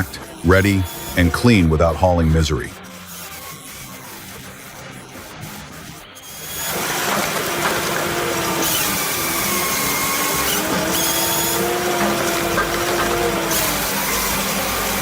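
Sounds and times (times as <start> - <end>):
wood-processing machine droning: 0.0 - 15.0.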